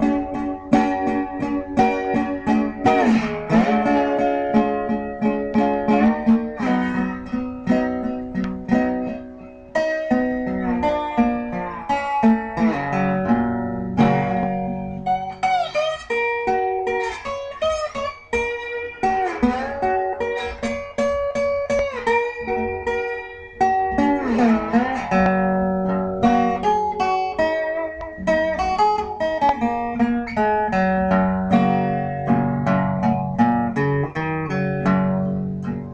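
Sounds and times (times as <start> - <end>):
guitar plucked notes and chords: 0.0 - 35.9.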